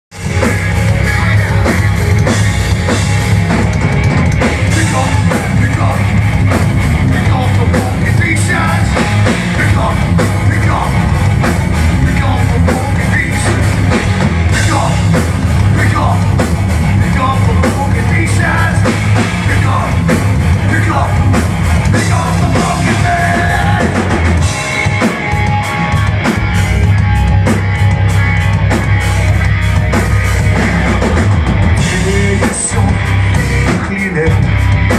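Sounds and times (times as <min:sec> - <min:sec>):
heavy metal band playing live: 0:00.1 - 0:34.9.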